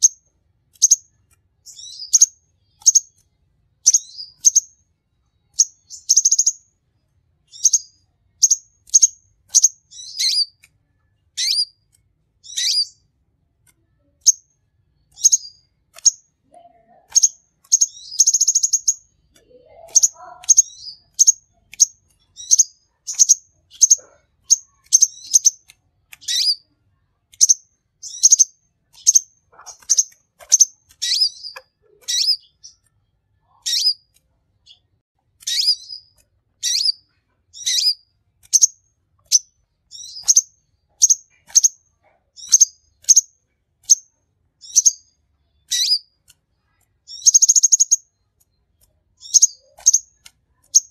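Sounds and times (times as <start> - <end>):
buzzy bird trill: 0.0 - 3.2, 3.8 - 4.8, 5.5 - 6.6, 7.5 - 10.6, 11.3 - 11.8, 12.4 - 13.0, 14.0 - 16.3, 16.9 - 26.7, 27.3 - 34.8, 35.4 - 41.8, 42.4 - 46.2, 47.1 - 48.2, 49.2 - 50.9
bird chirping: 0.0 - 50.9.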